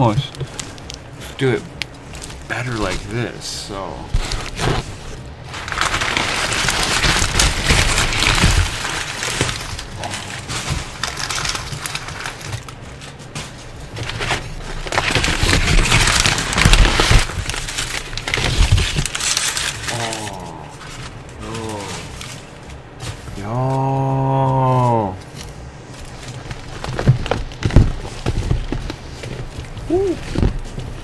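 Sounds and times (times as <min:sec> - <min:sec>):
packing paper crinkling: 0:00.0 - 0:31.0.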